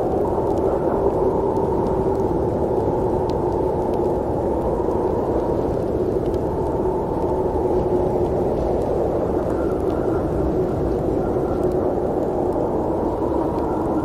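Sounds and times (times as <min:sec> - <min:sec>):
faint steady hum: 0:00.0 - 0:14.0
faint ticks: 0:00.0 - 0:14.0.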